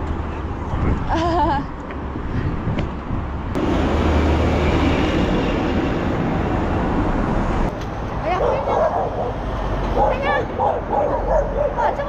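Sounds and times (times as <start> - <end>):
heavy truck passing: 2.1 - 12.0.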